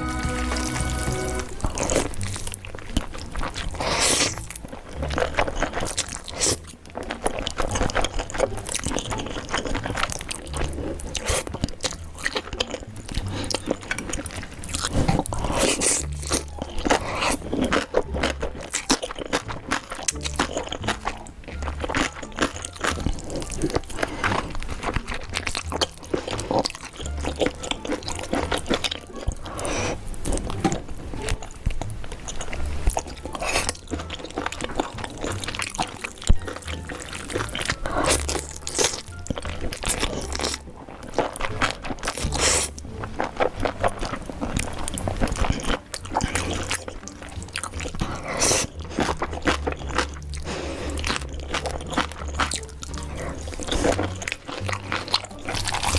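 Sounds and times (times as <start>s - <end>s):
background music with bass line: 0.0s - 2.8s, 7.6s - 55.9s
crunchy bites and wet chewing: 0.0s - 55.9s.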